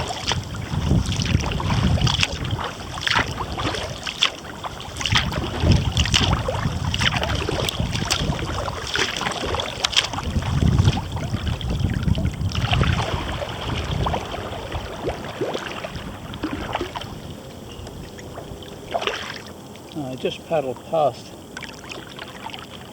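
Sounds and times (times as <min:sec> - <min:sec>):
wind rumble on microphone: 0:00.0 - 0:19.4
paddle splashing water: 0:00.0 - 0:22.9.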